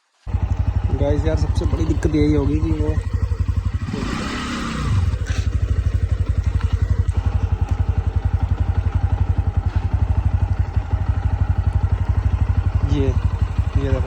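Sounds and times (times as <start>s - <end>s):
motorcycle engine idling: 0.2s - 14.0s.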